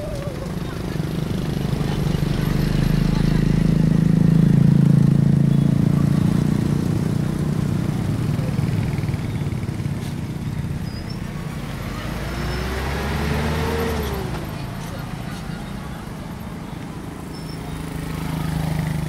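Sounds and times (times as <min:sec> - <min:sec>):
engine speeding up: 0:00.0 - 0:19.0
scooter and motorbike traffic: 0:00.0 - 0:19.0.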